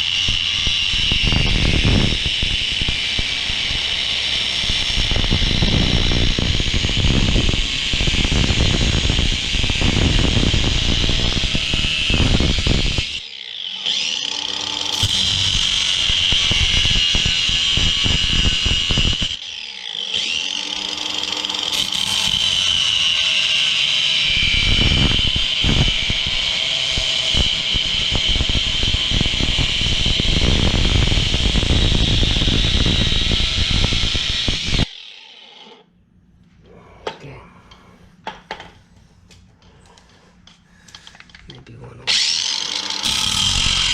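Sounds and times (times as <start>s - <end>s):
power tool high whine: 0.0s - 35.9s, 42.1s - 43.9s.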